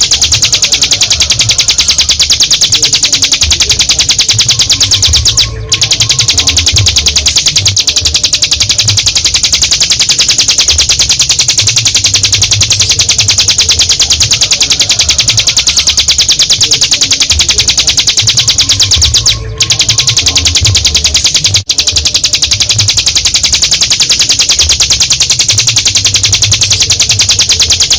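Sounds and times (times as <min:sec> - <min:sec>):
bird singing rapid high notes: 0:00.0 - 0:27.9.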